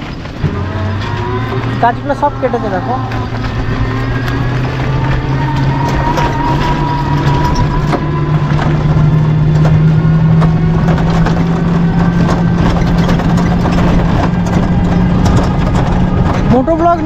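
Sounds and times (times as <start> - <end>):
electric motor hum: 0.0 - 17.0
road rumble: 0.0 - 17.0
vehicle body rattling: 0.0 - 17.0.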